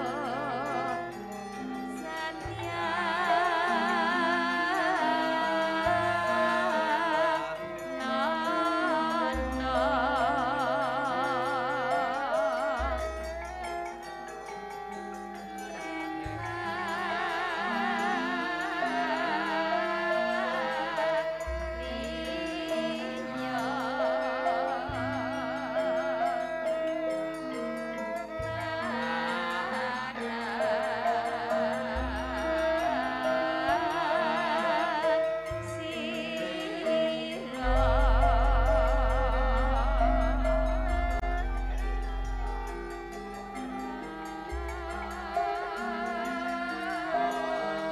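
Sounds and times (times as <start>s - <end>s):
woman singing with vibrato: 0.0s - 14.7s, 15.4s - 47.9s
sustained gamelan notes: 0.0s - 47.9s.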